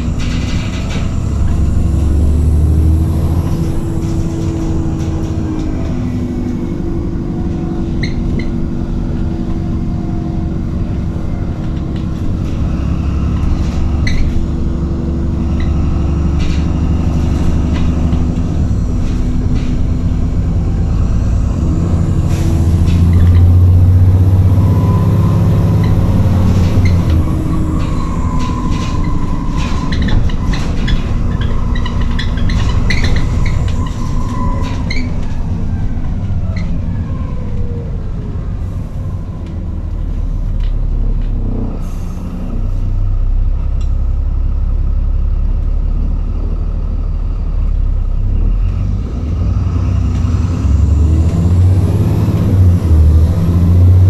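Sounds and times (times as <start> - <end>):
bus engine rumble: 0.0 - 54.0
drivetrain whine: 0.0 - 54.0.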